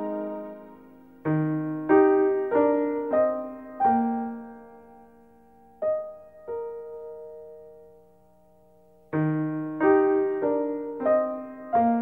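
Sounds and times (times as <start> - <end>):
piano notes ringing: 0.0 - 12.0.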